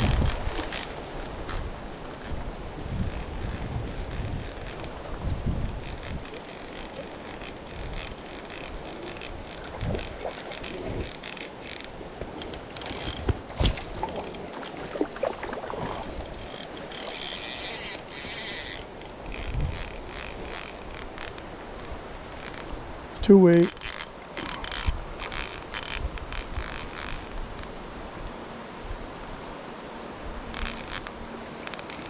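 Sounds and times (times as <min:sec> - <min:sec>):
fly reel drag clicking: 0:00.0 - 0:22.8, 0:23.6 - 0:27.8, 0:30.5 - 0:32.0.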